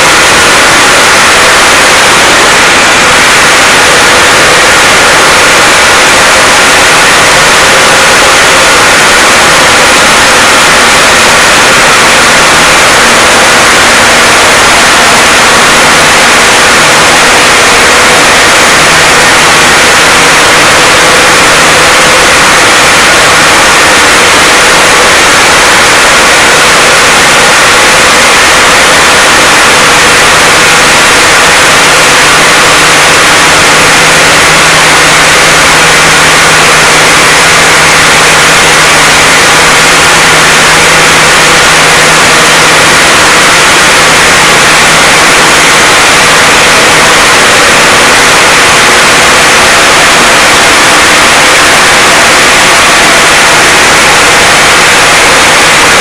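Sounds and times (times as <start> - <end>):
floor milling machine running: 0.0 - 56.0.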